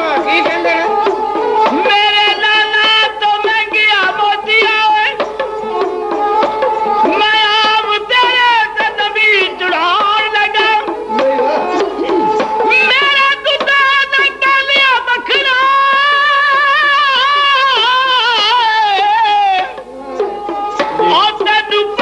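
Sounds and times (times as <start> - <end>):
hand drum strokes: 0.0 - 22.0.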